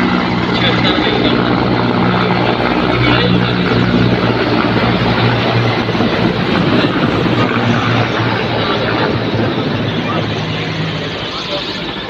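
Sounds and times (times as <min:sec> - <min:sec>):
helicopter engine and rotor drone: 0:00.0 - 0:12.0
low hum: 0:00.0 - 0:12.0.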